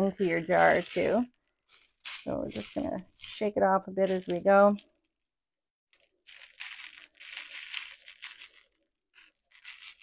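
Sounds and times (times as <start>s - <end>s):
salt crystals sprinkling: 0.0s - 4.9s, 6.0s - 10.0s.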